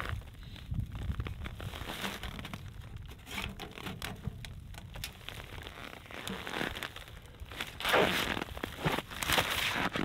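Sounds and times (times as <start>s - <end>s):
nylon tent fabric rustling: 0.0s - 4.2s, 5.0s - 10.0s
low wind rumble: 0.0s - 10.0s.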